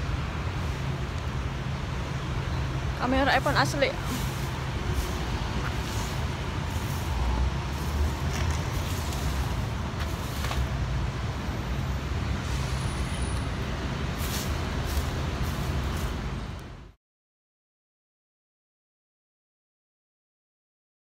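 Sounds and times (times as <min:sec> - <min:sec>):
low outdoor rumble: 0:00.0 - 0:16.9.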